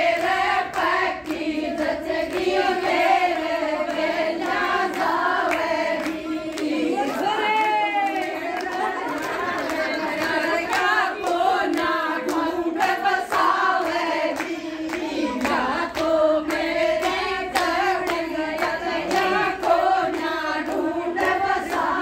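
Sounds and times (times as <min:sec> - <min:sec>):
women singing devotional song: 0:00.0 - 0:22.0
hand clapping: 0:00.1 - 0:22.0.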